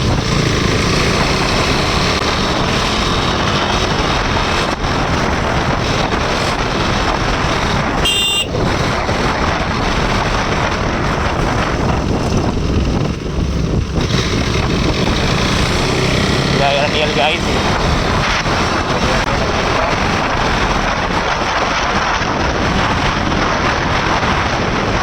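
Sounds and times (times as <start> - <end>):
motorcycle engine running: 0.0 - 25.0
wind rush on microphone: 0.0 - 25.0.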